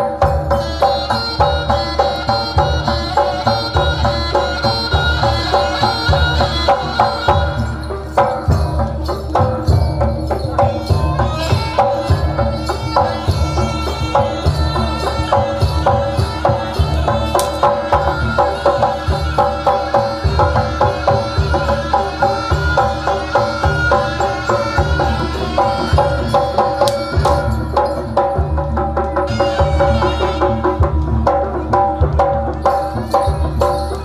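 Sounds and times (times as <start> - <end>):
hand drums rhythm: 0.0 - 34.0.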